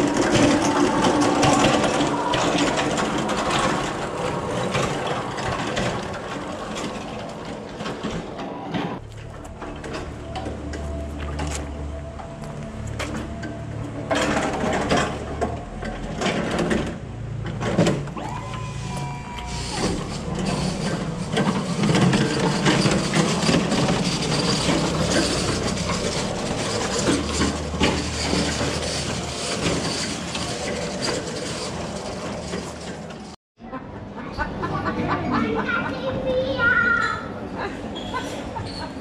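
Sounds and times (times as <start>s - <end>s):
pallet truck wheels rattling on paving: 0.0s - 33.4s.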